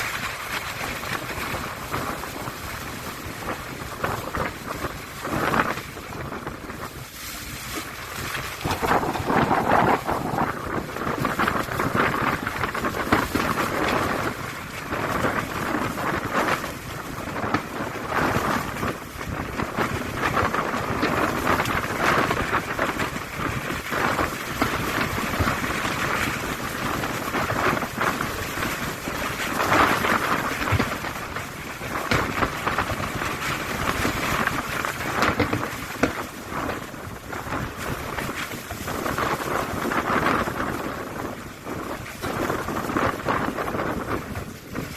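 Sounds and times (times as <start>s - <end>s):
fireworks booming and crackling: 7.8s - 44.9s.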